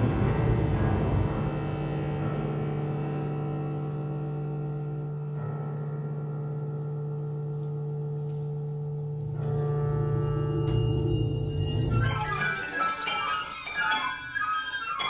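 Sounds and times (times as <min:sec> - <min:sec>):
electroacoustic chamber music: 0:00.0 - 0:15.0.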